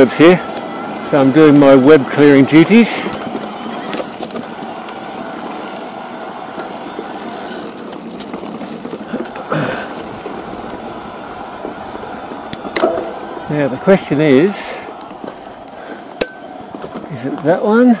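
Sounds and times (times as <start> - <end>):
bike tyres rushing on dirt: 0.0 - 18.0.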